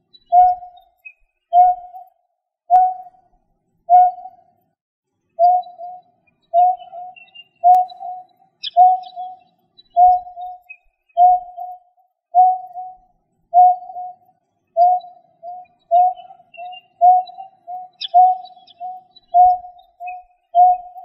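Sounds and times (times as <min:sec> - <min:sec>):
bird chirp: 0:00.0 - 0:03.2, 0:03.9 - 0:04.6, 0:05.3 - 0:21.0.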